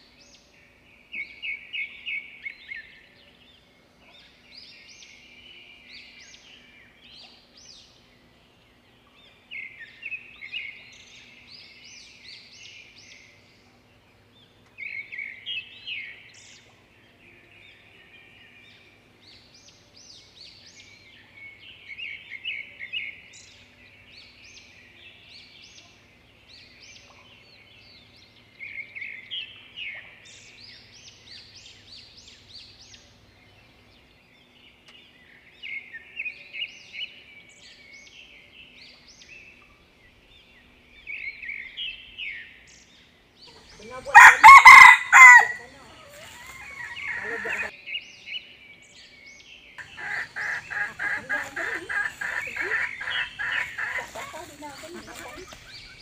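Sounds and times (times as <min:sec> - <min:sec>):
birds chirping: 0:00.2 - 0:56.0.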